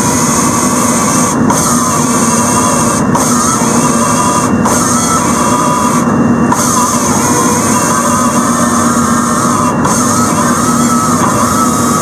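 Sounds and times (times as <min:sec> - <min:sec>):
machine engine and hydraulics: 0:00.0 - 0:12.0.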